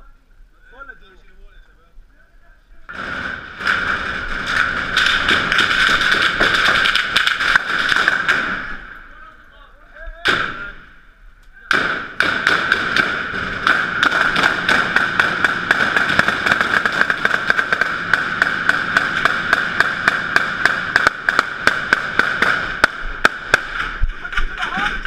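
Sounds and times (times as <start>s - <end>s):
gunfire crackling: 2.9s - 9.1s, 10.2s - 11.0s, 11.7s - 25.0s.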